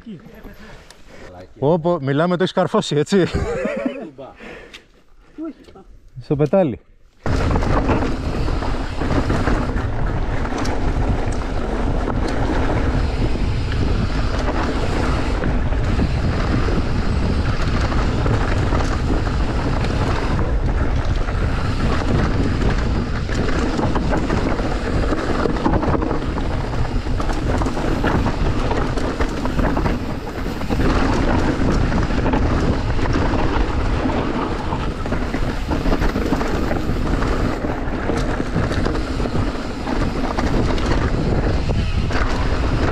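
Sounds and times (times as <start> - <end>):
tyres on dirt and rock: 6.4 - 42.9
bike rattling and knocking: 7.2 - 42.9
wind buffeting microphone: 7.2 - 42.9.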